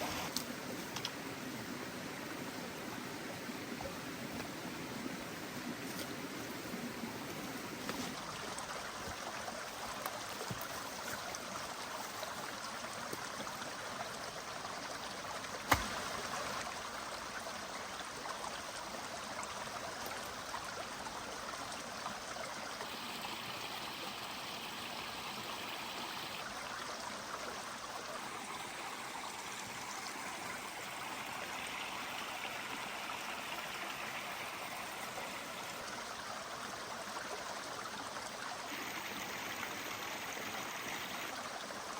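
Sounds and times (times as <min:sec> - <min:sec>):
running water rushing: 0:00.0 - 0:41.9.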